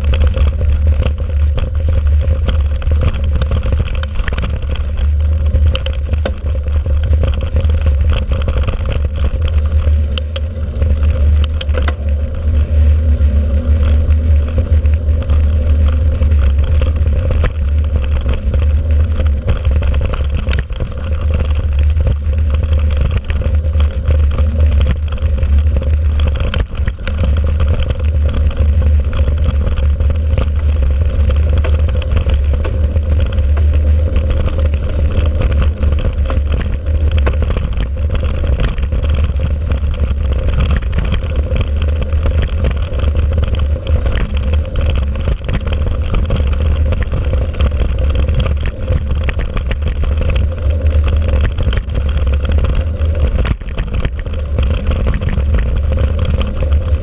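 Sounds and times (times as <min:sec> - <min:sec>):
bike knocks and rattles: 0:00.0 - 0:57.0
bike tyre noise: 0:00.0 - 0:57.0
wind rumble on microphone: 0:00.0 - 0:57.0.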